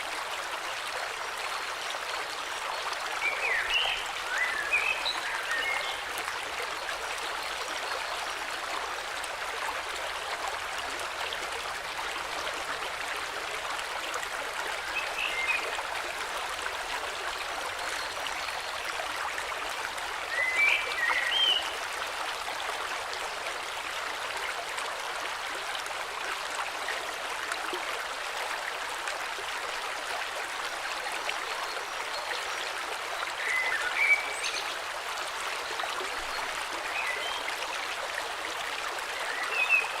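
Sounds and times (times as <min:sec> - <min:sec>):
river flowing: 0:00.0 - 0:40.0.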